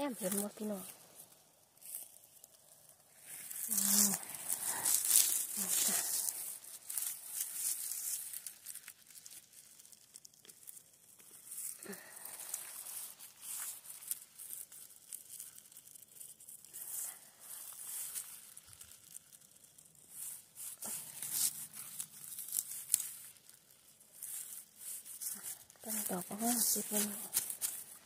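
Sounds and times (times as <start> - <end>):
hand rustling through moss and grass: 0.0 - 28.0
mushrooms tearing from ground: 0.0 - 28.0.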